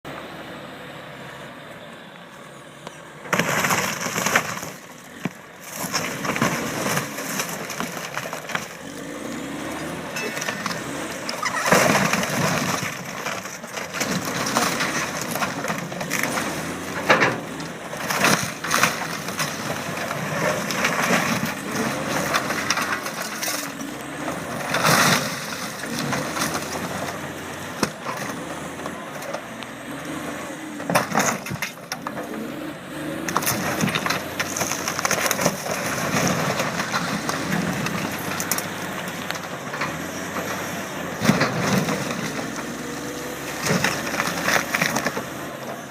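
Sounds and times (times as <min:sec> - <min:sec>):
loader machine running: 0:00.1 - 0:45.9.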